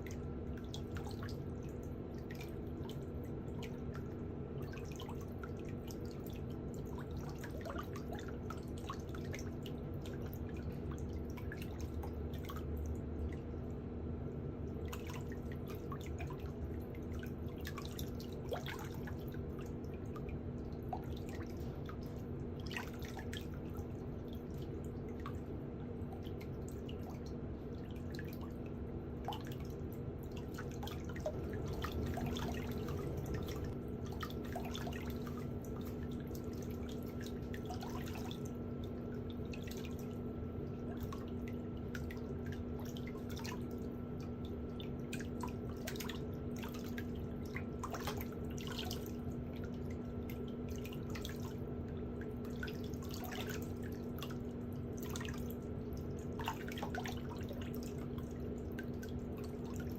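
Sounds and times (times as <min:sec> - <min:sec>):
water dripping and splashing: 0:00.0 - 0:13.8, 0:14.4 - 0:59.9
steady low hum: 0:00.0 - 0:59.9.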